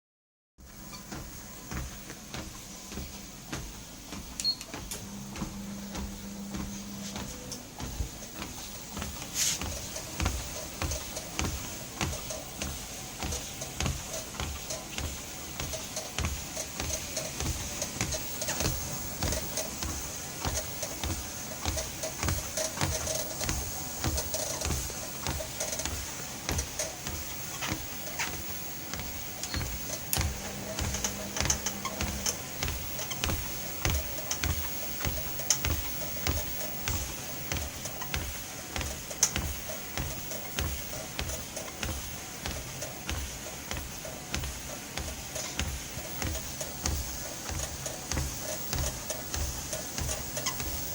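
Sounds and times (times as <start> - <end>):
treadmill squeaking and creaking: 0.6 - 50.9.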